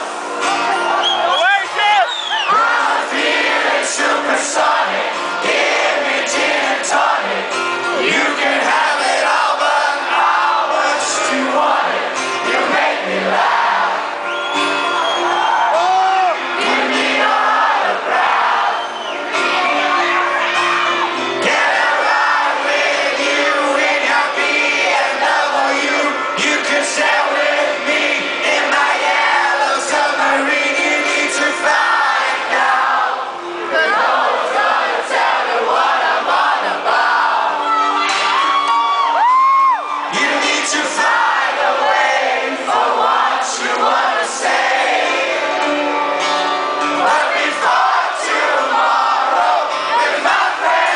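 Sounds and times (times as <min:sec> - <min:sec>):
live band music: 0:00.0 - 0:32.7, 0:33.3 - 0:41.3, 0:42.8 - 0:50.9
crowd cheering and singing: 0:00.0 - 0:50.9.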